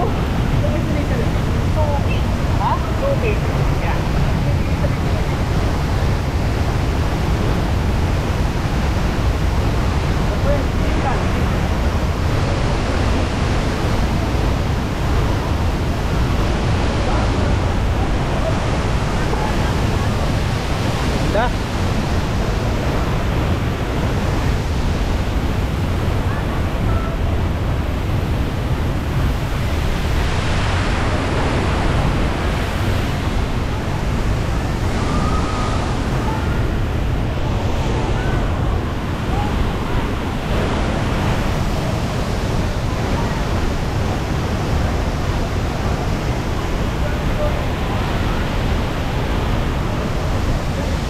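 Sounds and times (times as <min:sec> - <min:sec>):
waterfall and stream rushing: 0:00.0 - 0:51.0.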